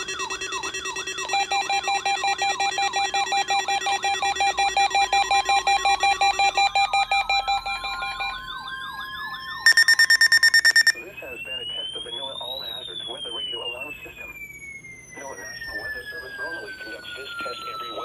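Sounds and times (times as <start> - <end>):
rapid beeping: 0.0 - 18.0
weather radio alarms: 0.0 - 18.0.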